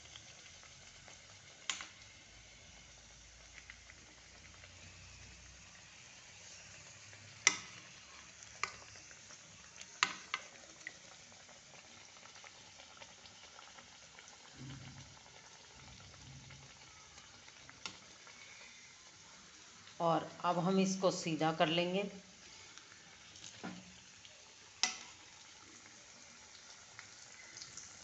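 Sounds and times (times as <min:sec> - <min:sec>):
food deep-frying in oil: 0:00.0 - 0:28.0.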